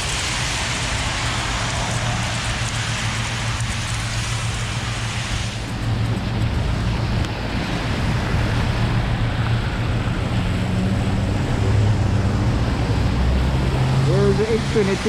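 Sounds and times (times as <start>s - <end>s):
rain hissing: 0.0s - 15.0s
vehicle engine humming: 0.0s - 15.0s
wet road noise: 0.0s - 15.0s.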